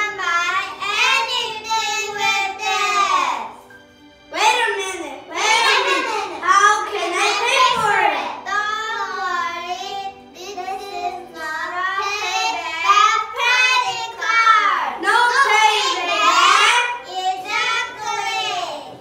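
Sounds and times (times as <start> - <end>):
children singing: 0.0 - 3.6, 5.3 - 19.0
accompanying music: 0.0 - 19.0.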